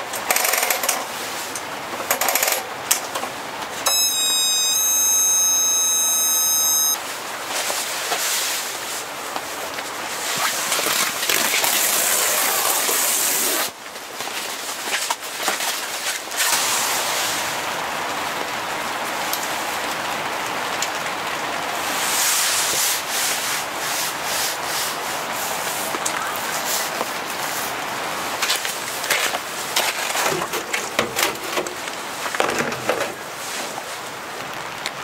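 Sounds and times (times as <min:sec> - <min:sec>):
rain on tent fabric: 0:00.0 - 0:35.0.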